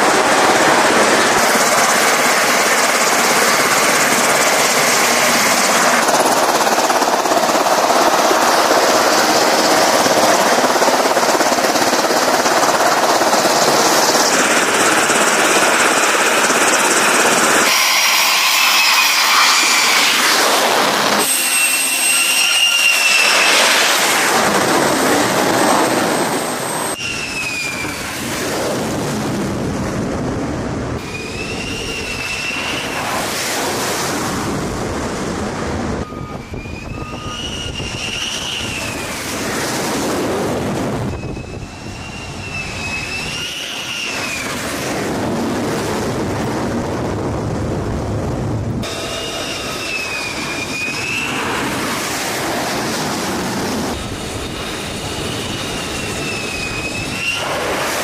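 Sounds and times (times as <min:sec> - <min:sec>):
jet engine roar with whine: 0:00.0 - 0:58.0.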